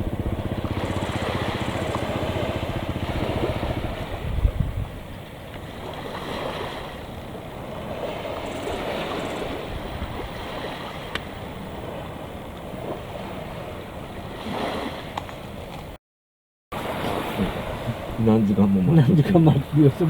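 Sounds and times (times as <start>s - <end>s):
sea waves washing on shore: 0.0s - 15.8s, 16.8s - 20.0s.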